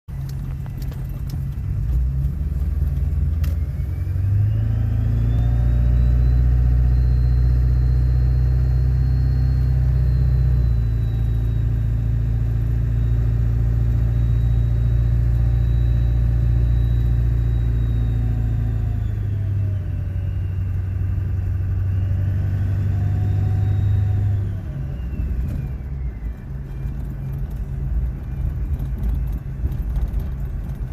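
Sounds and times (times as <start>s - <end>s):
diesel engine revving: 0.1s - 30.9s
high-pitched engine whine: 0.1s - 30.9s.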